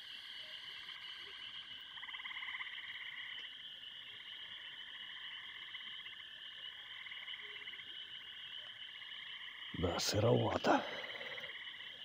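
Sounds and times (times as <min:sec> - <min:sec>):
frogs trilling: 0:00.0 - 0:12.0.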